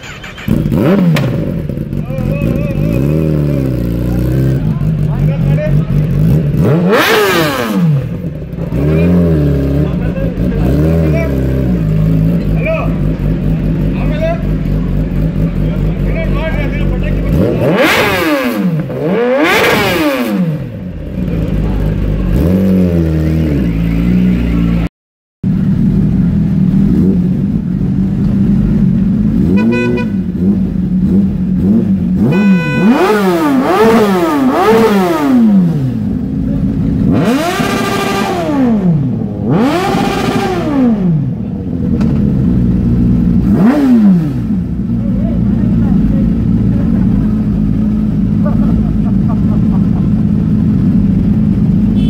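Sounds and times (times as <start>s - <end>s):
motorcycle engines idling and revving: 0.0s - 52.0s.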